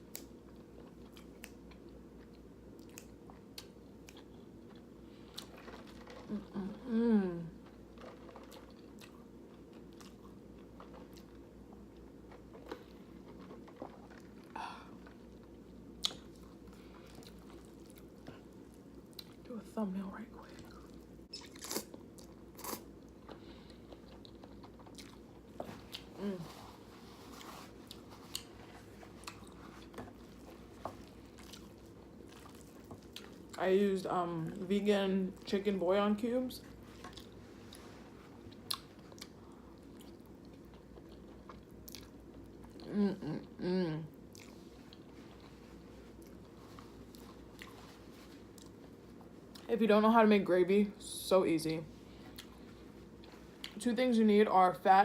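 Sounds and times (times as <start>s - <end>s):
person chewing pasta: 0.0s - 19.5s, 20.5s - 33.6s, 36.6s - 49.7s, 52.0s - 53.8s.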